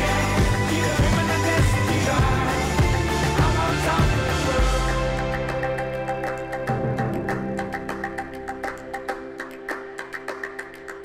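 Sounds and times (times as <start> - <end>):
sustained instrumental notes: 0.0 - 10.0.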